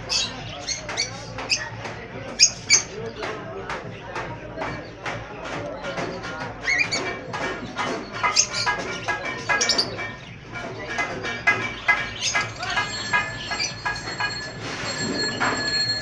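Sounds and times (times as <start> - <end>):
caged birds chirping: 0.0 - 16.0.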